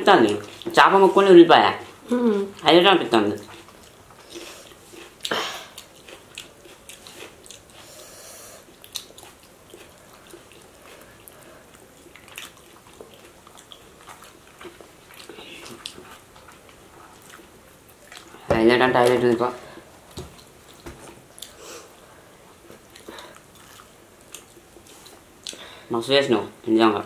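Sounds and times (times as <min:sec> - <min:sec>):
people chewing food: 0:00.0 - 0:25.9.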